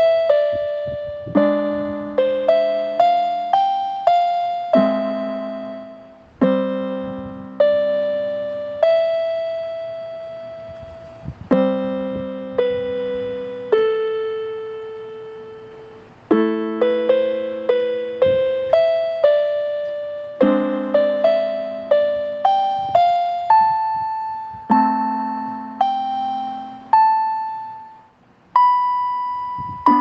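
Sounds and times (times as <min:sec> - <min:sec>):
solo piano music: 0:00.0 - 0:30.0.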